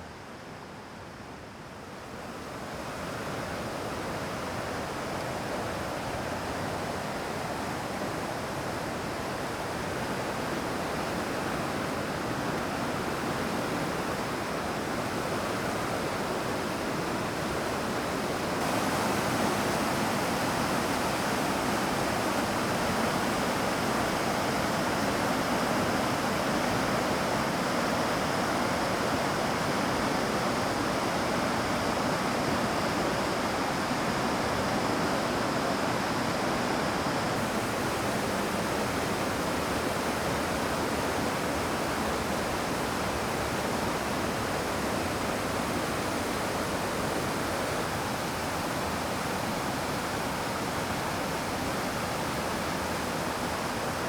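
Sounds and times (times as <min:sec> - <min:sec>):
rushing stream water: 0:02.4 - 0:54.0.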